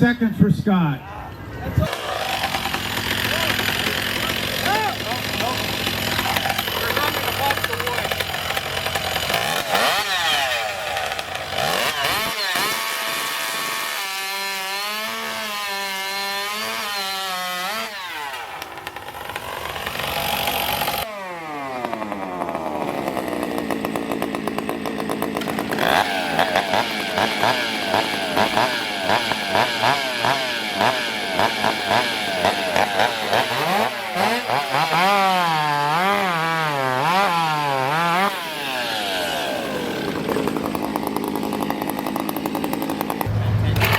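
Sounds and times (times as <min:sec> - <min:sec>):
chainsaws revving: 0:01.7 - 0:43.9
chainsaw throttle blips: 0:01.8 - 0:43.9.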